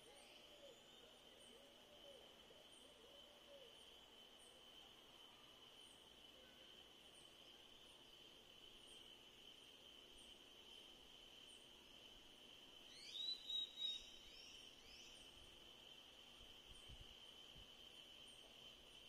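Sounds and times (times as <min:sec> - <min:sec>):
high-pitched insect trill: 0:00.0 - 0:19.0.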